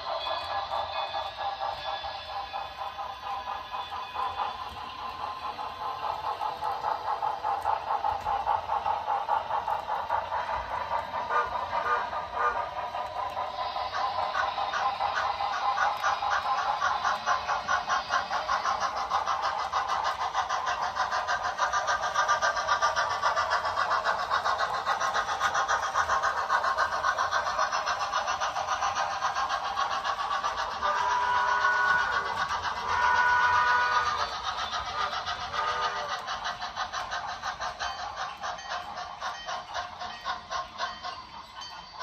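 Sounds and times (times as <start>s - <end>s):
model train clattering on track: 0.0s - 42.0s.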